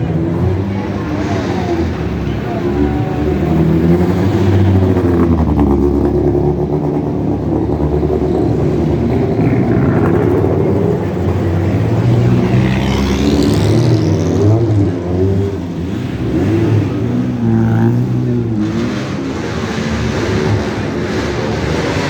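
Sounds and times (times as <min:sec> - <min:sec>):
sports car engines revving: 0:00.0 - 0:22.0.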